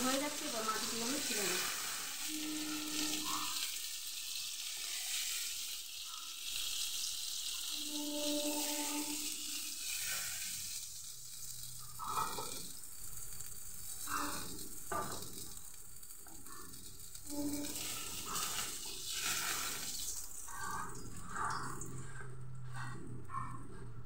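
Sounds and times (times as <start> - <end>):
fish sizzling in hot oil: 0.0 - 22.2.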